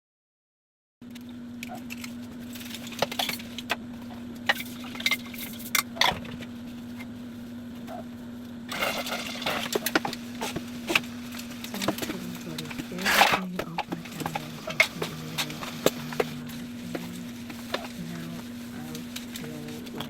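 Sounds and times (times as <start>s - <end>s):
steady low hum: 1.0s - 20.0s.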